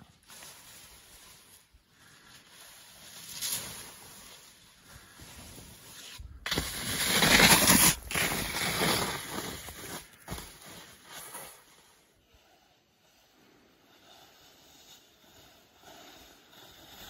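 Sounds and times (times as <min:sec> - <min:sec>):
skis scraping over snow: 0:00.1 - 0:17.0.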